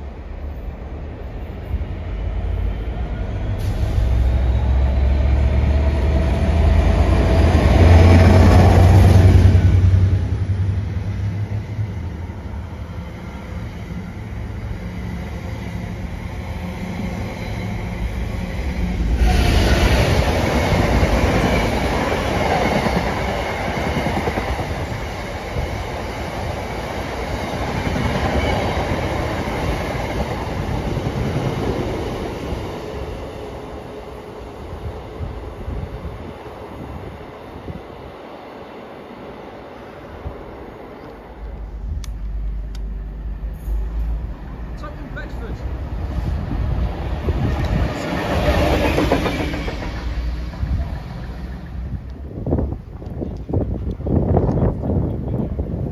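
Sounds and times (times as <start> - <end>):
freight train rumbling and clattering: 0.0 - 37.8, 41.0 - 55.9
diesel locomotive passing: 0.0 - 55.9
rolling rumble of train: 0.0 - 55.9.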